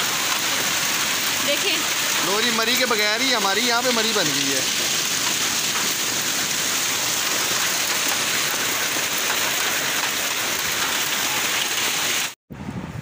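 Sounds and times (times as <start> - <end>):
hail and rain on pavement: 0.0 - 12.4.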